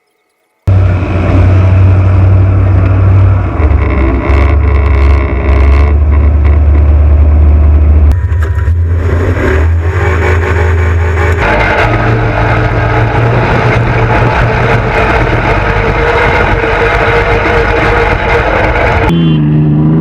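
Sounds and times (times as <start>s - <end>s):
off-road vehicle engine revving: 0.7s - 20.0s.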